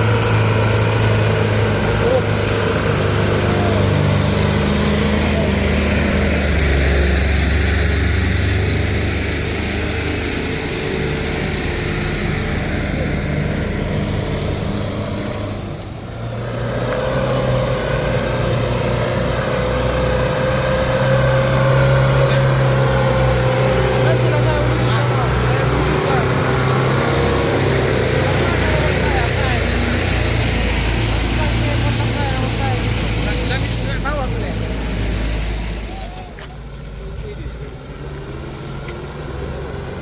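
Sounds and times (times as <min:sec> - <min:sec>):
heavy vehicle engines running: 0:00.0 - 0:40.0.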